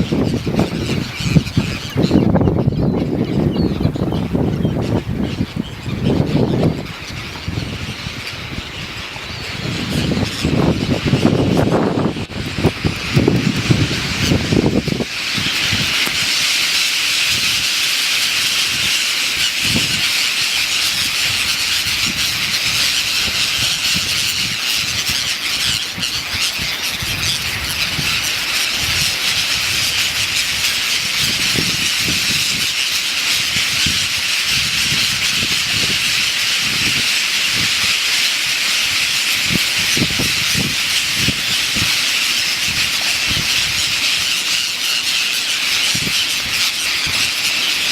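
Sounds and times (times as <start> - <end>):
flock of birds calling: 0.0 - 47.9.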